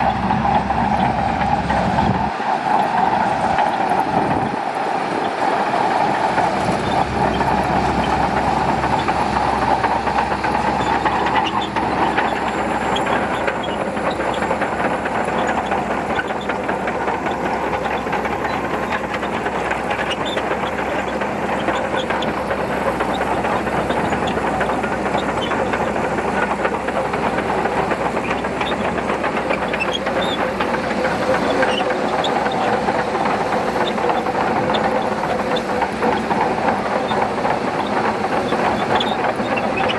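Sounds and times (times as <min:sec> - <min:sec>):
bulldozer diesel engine under load: 0:00.0 - 0:39.9
steel tracks clattering: 0:00.0 - 0:39.9.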